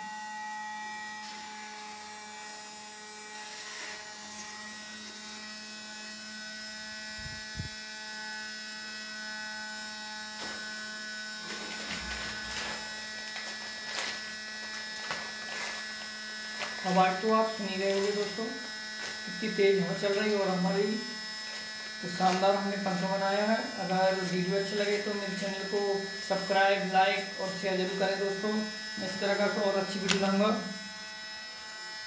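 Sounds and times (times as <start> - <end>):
small fan motor humming: 0.0 - 32.0.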